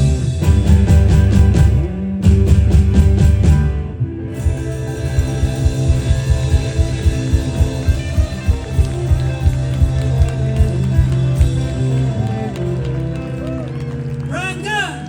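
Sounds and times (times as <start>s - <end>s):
steady drum beat: 0.0s - 3.7s, 4.4s - 13.2s
bass guitar: 0.0s - 15.0s
electric guitars: 0.0s - 15.0s.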